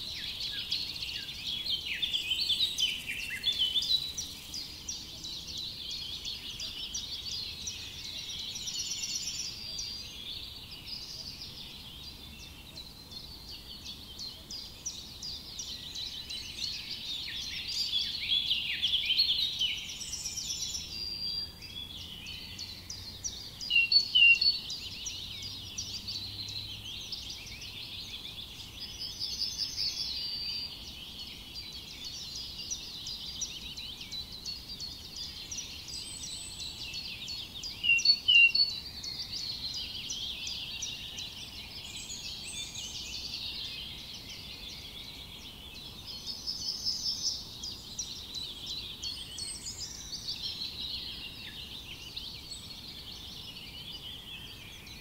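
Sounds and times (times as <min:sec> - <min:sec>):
songbirds chorus: 0:00.0 - 0:55.0.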